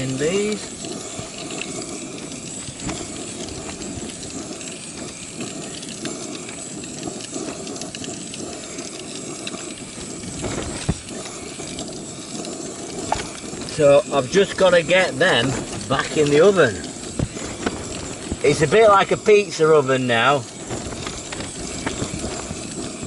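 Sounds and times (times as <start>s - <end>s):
gas burners hissing: 0.0s - 23.0s.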